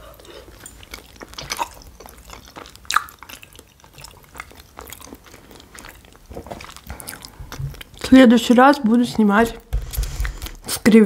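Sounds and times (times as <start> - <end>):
person chewing: 0.0 - 8.2, 9.2 - 10.8.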